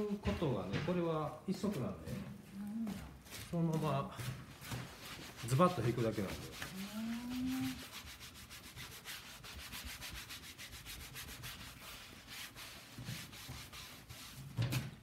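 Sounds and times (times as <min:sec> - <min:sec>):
brush swishing over cloth: 0:01.6 - 0:14.6.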